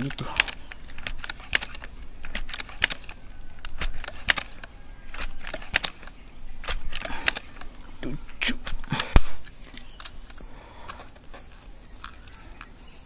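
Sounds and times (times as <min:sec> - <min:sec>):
air rifle pump clicking: 0:00.0 - 0:13.0.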